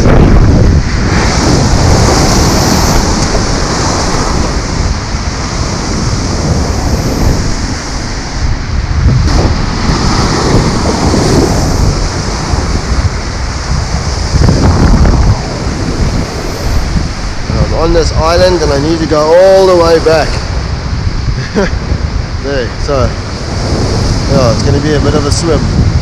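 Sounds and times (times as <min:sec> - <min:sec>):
surf breaking against rocks: 0:00.0 - 0:26.0
wind buffeting microphone: 0:00.0 - 0:26.0.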